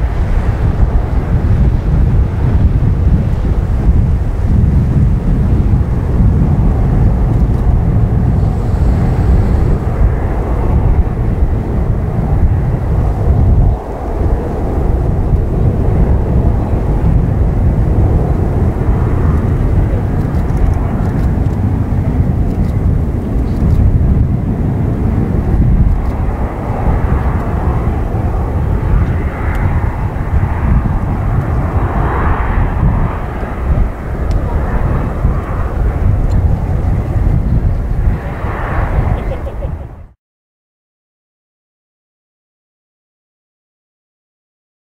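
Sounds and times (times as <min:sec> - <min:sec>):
jet airliner taking off: 0:00.0 - 0:40.2.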